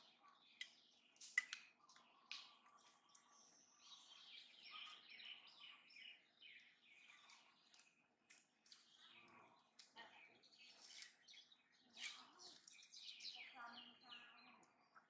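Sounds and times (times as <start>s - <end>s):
songbird calling: 0.0s - 8.0s, 8.6s - 15.0s.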